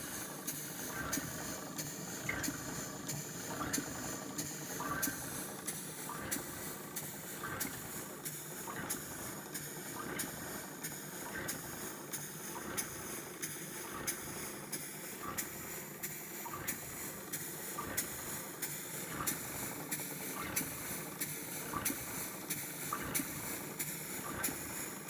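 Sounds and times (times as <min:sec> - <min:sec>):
model steam engine running: 0:00.0 - 0:25.0.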